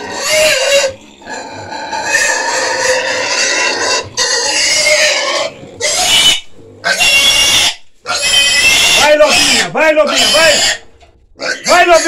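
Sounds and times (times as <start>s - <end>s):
piglet squealing: 0.0s - 12.0s.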